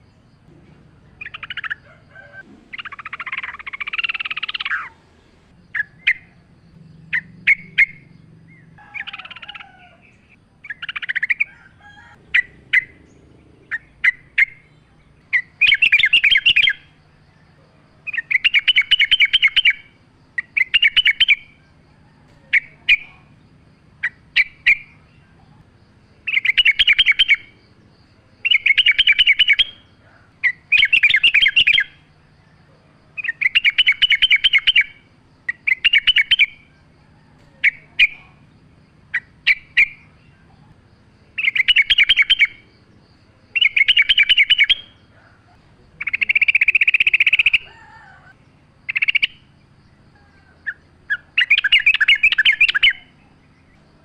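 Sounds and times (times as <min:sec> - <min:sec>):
bird chirping and bubbling song: 0:00.0 - 0:11.6, 0:12.2 - 0:45.2, 0:48.3 - 0:54.0.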